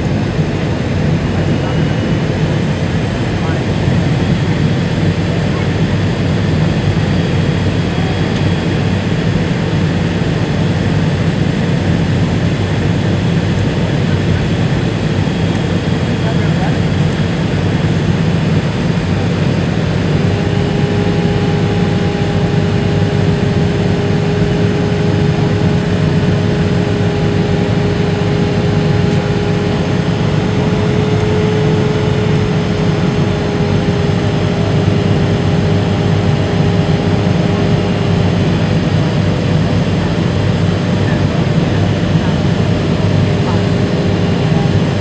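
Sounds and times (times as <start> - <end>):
airliner cabin roar: 0.0 - 45.0.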